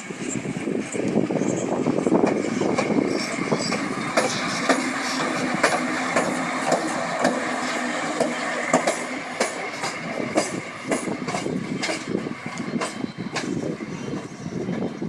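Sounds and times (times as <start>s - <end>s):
train rolling noise: 0.0s - 15.0s
train wheels clacking over rail joints: 1.0s - 15.0s.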